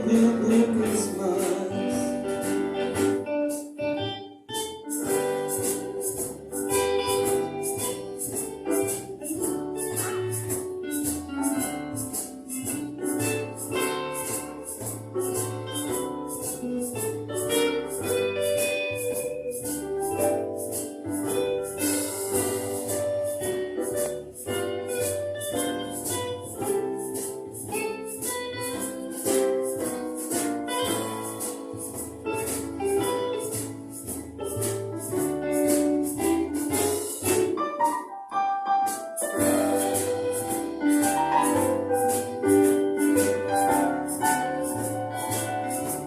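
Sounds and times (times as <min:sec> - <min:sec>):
bass: 0:00.0 - 0:37.7, 0:38.9 - 0:46.0
shaker rhythm: 0:00.0 - 0:38.1, 0:38.9 - 0:46.0
keyboard chords: 0:00.0 - 0:46.0.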